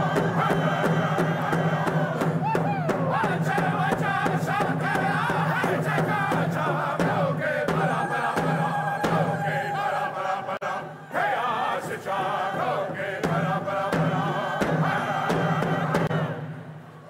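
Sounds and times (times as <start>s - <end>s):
group chanting with vocal calls: 0.0s - 16.8s
frame drums beat: 0.0s - 16.9s.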